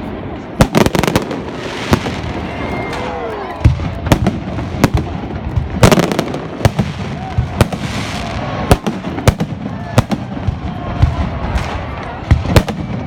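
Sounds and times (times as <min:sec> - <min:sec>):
fireworks bangs: 0:00.0 - 0:13.0
fireworks crackle and rumble: 0:00.0 - 0:13.0.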